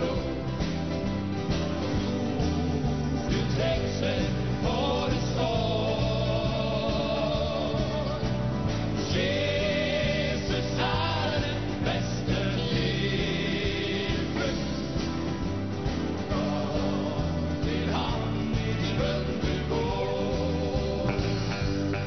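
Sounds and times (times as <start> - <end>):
acoustic guitars and bass: 0.0 - 22.0
choir singing a hymn: 0.0 - 22.0.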